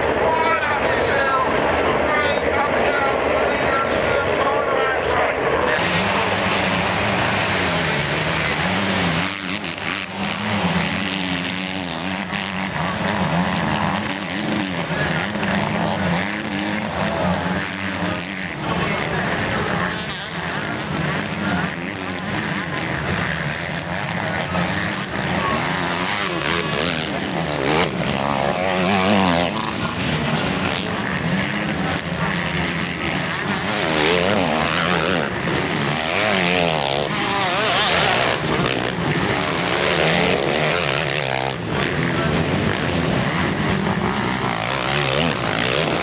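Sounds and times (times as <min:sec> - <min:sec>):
drone of distant bikes: 0:00.0 - 0:46.0
motocross bikes revving past: 0:05.0 - 0:46.0.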